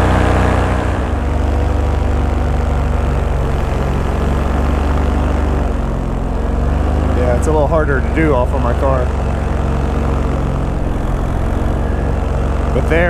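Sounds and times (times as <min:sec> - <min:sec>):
paramotor engine droning: 0:00.0 - 0:13.0.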